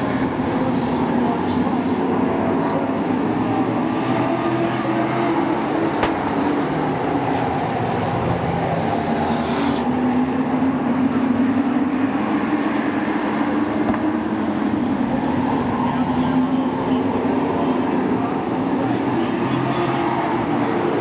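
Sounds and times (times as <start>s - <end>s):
racing truck engines: 0.0s - 21.0s.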